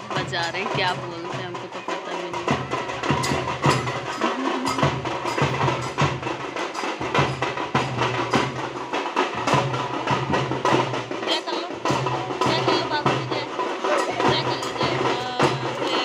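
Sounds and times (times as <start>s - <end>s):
drums beaten fast: 0.0s - 16.0s.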